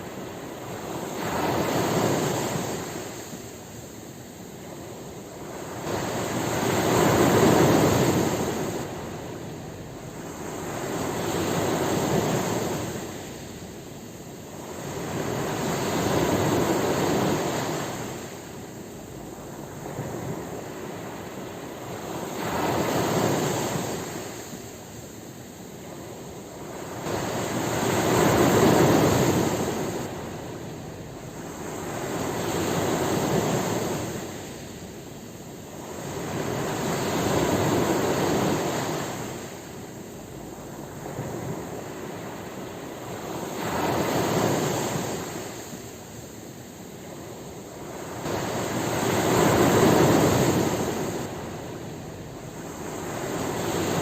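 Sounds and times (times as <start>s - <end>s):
ocean waves surging: 0.0s - 54.0s.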